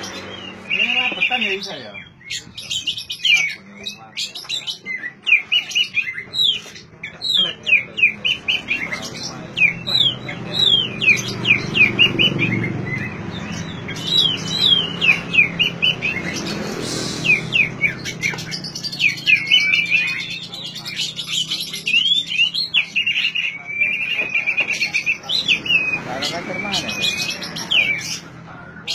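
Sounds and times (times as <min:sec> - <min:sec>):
bird singing whistled notes: 0:00.0 - 0:28.0.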